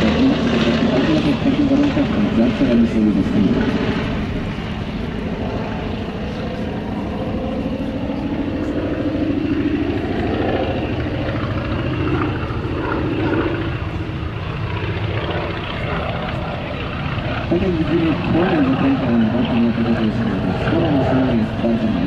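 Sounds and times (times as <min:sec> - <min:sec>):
propeller plane droning overhead: 0:00.0 - 0:22.0.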